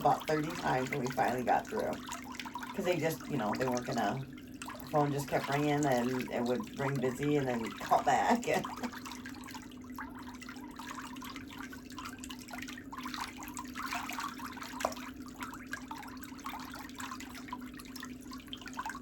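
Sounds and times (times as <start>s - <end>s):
steady low hum: 0.0s - 19.0s
water trickling and splashing: 0.0s - 19.0s.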